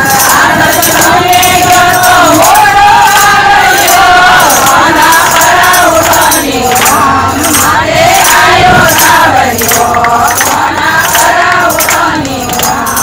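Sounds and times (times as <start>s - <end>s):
hands clapping in rhythm: 0.0s - 13.0s
women singing devotional song: 0.0s - 13.0s.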